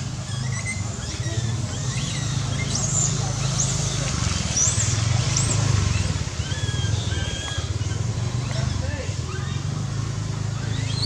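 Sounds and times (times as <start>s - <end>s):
infant monkey squealing: 0.0s - 10.0s, 10.6s - 11.0s.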